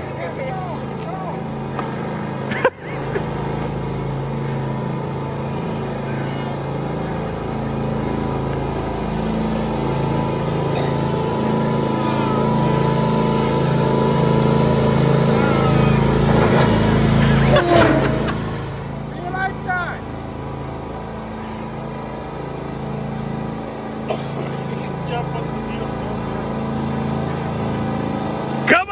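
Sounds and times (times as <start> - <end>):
riding lawn tractor engines: 0.0 - 28.9.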